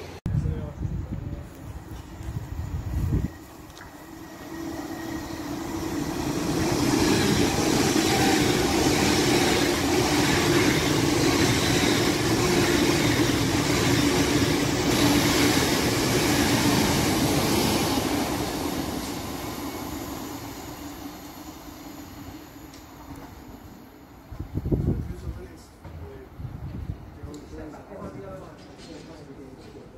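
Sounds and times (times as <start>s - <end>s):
electric train passing: 1.0s - 25.4s.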